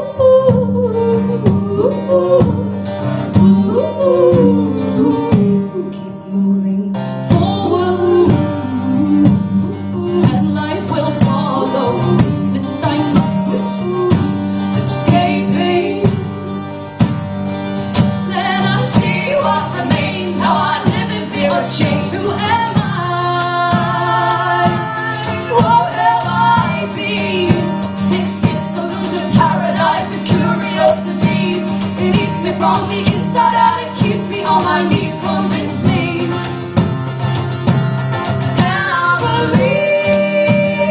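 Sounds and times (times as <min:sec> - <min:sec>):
women singing folk song: 0:00.0 - 0:16.5, 0:18.2 - 0:36.8, 0:38.5 - 0:40.9
strummed acoustic guitar: 0:00.0 - 0:40.9.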